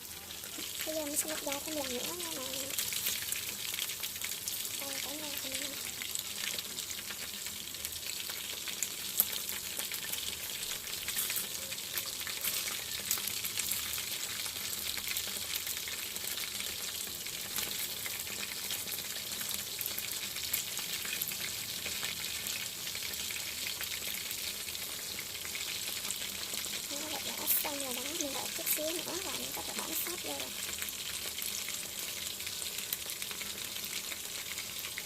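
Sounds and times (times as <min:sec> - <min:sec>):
chicken frying in oil: 0:00.0 - 0:35.0.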